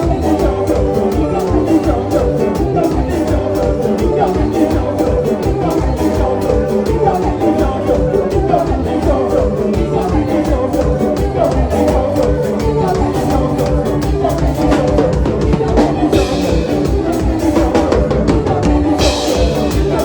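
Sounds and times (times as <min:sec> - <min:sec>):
drum kit beat: 0:00.0 - 0:20.0
live band playing dance music: 0:00.0 - 0:20.0
person singing: 0:00.0 - 0:20.0.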